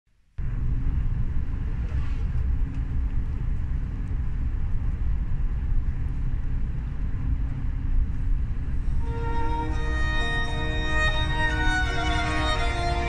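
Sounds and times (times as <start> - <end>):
train rumbling on board: 0.4 - 13.0.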